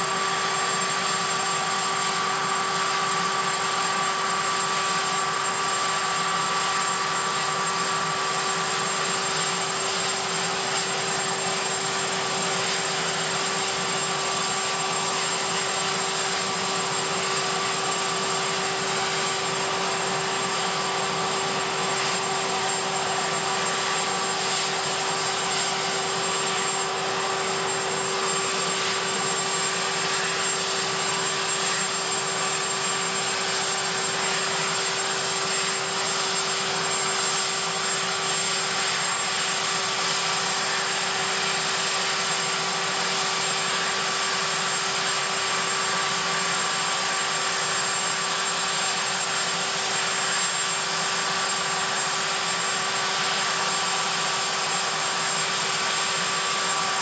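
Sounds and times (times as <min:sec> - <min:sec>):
helicopter turbine whine: 0:00.0 - 0:57.0.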